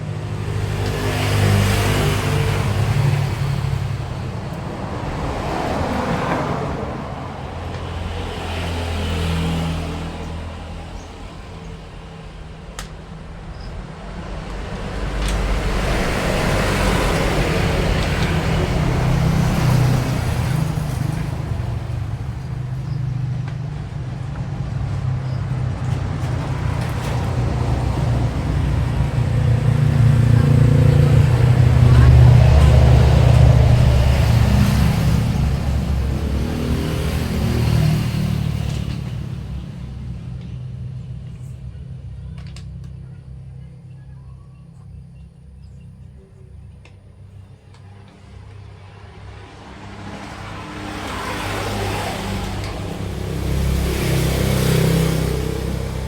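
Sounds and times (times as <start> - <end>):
low engine rumble: 0.0 - 56.0
vehicles passing: 0.0 - 56.0.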